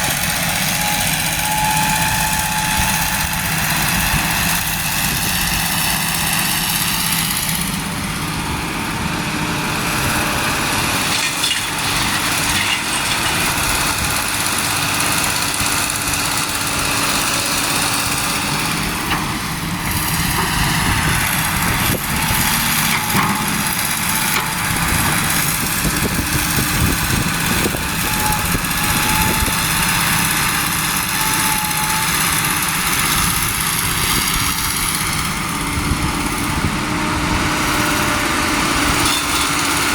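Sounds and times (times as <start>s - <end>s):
truck engines running: 0.0s - 39.9s.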